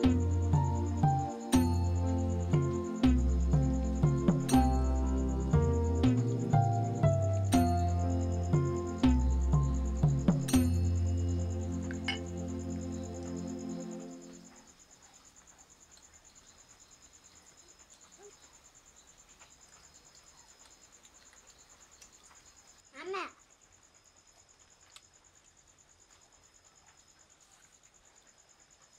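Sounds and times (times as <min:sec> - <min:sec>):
crickets trilling: 0:00.0 - 0:28.9.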